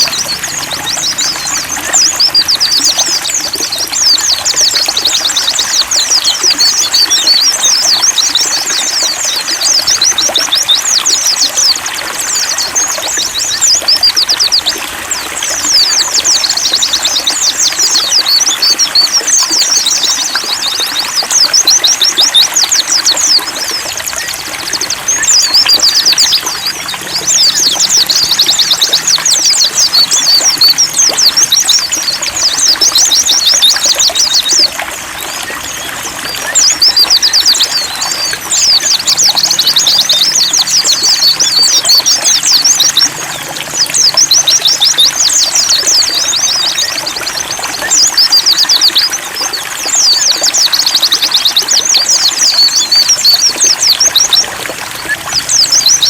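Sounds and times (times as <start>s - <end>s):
birds twittering: 0.0s - 56.0s
running water trickling: 0.0s - 56.0s.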